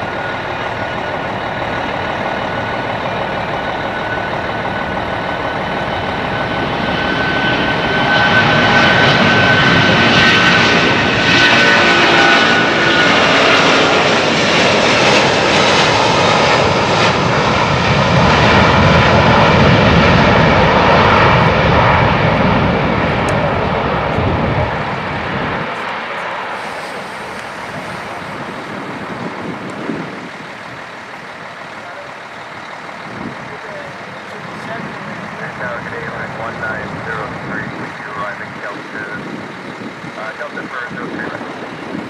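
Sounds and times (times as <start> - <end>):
jet engines at takeoff thrust: 0.0 - 42.0.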